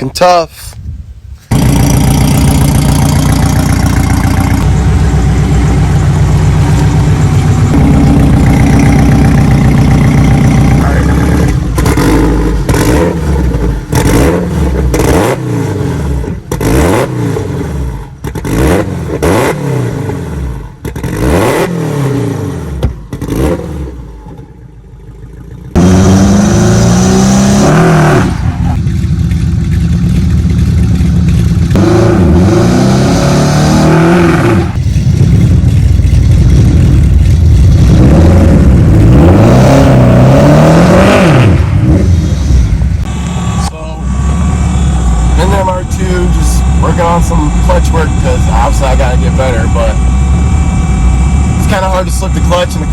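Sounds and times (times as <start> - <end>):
car engine revving: 1.5 - 52.9.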